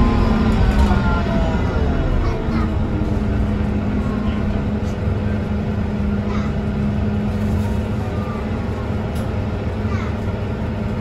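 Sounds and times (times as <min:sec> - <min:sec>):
bus diesel engine rumbling: 0:00.0 - 0:11.0.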